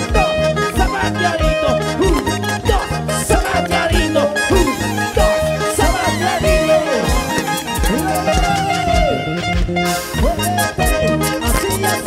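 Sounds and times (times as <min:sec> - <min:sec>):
upbeat latin dance music: 0:00.0 - 0:12.0.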